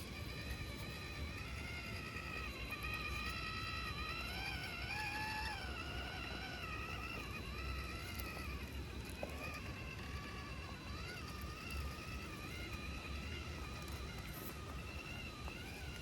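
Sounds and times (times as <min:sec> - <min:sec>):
electric motor and gearbox whining: 0:00.0 - 0:16.0.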